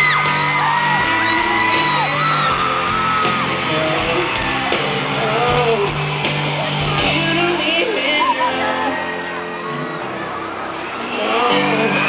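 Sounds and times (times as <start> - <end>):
band playing live ballad: 0.0 - 12.0
crowd screaming: 0.0 - 12.0.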